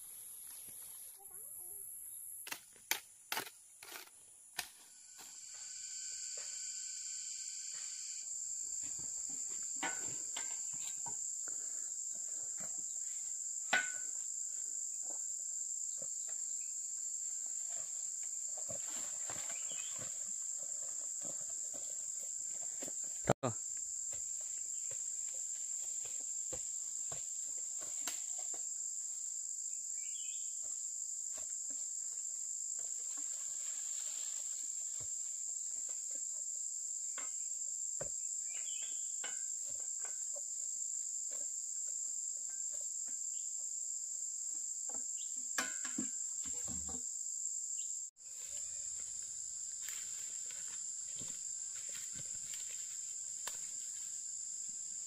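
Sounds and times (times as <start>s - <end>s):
insects chirping chorus: 3.6s - 55.0s.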